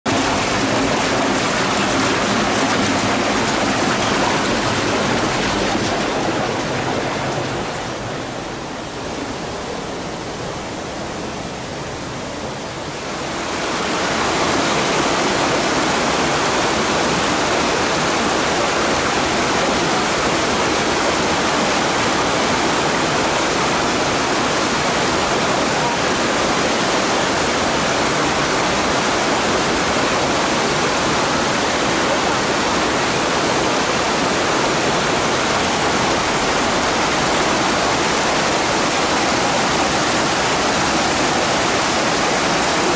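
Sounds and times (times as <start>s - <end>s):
waterfall splashing over rocks: 0.1s - 9.0s, 12.6s - 42.9s.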